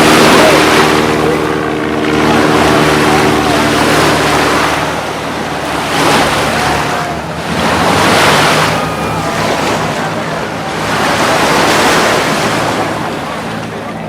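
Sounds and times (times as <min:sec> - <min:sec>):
low engine hum: 0:00.0 - 0:14.0
surf breaking on beach: 0:00.0 - 0:14.0.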